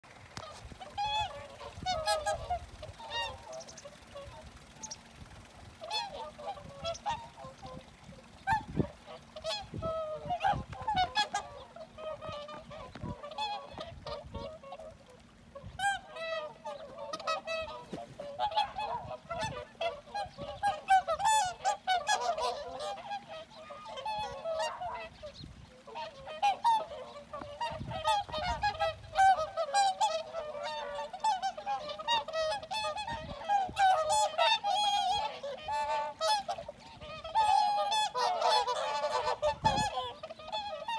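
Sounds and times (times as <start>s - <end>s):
swans honking: 0.0s - 40.9s.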